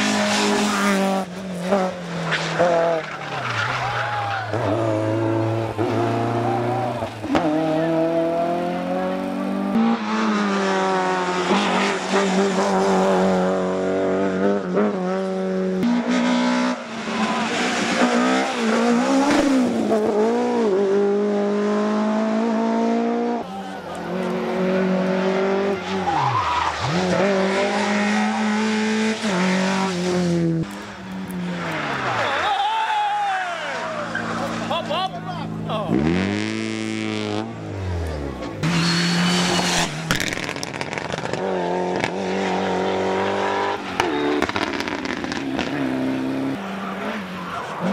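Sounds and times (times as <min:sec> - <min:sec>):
rally car engine revving: 0:00.0 - 0:32.5, 0:33.7 - 0:47.9.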